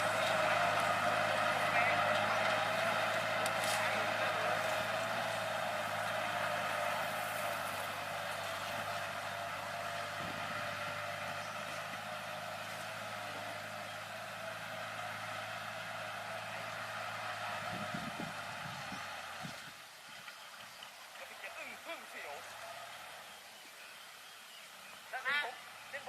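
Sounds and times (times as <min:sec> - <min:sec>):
tractor diesel engine running: 0:00.0 - 0:19.8, 0:21.2 - 0:23.6.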